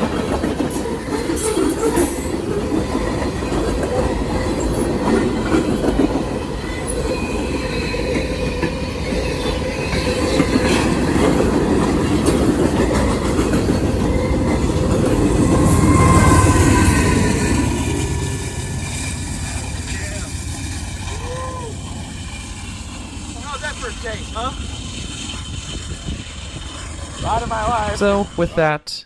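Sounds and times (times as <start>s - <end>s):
wheels clacking over rail joints: 0.0s - 28.5s
wheel squeal: 0.0s - 28.6s
freight train cars rolling: 0.0s - 28.7s.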